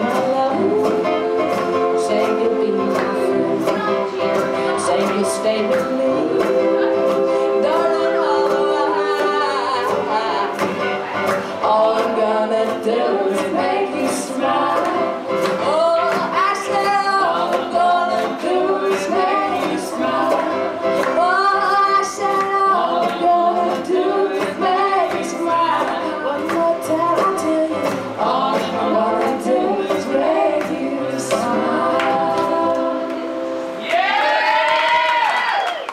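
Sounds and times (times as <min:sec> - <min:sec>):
women singing in harmony: 0:00.0 - 0:33.8
acoustic folk string band: 0:00.0 - 0:34.1.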